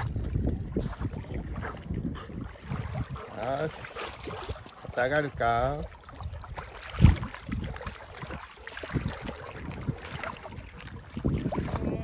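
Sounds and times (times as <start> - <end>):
dog wading through seawater: 0.0 - 12.0
wind on microphone: 0.0 - 12.0.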